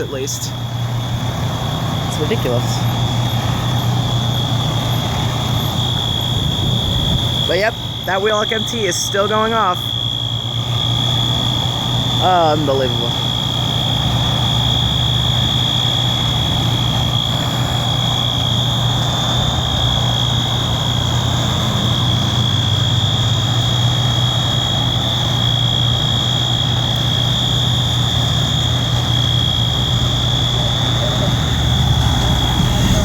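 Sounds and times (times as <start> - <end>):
idling diesel engines rumble: 0.0 - 33.0
fire alarm horn steady tone: 2.1 - 33.0.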